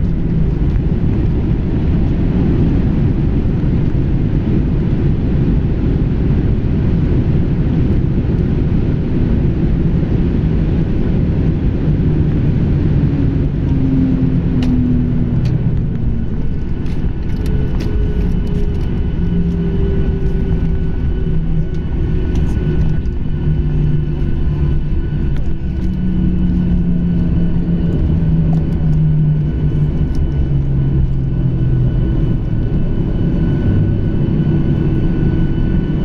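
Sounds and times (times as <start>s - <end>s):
aircraft engines and wheels rumbling: 0.0s - 36.0s.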